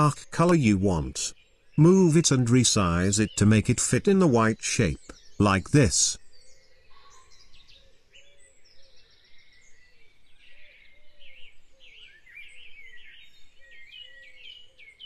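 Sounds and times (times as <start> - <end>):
birds chirping and singing: 0.0 - 15.0
low repeated bird calls: 0.0 - 15.0.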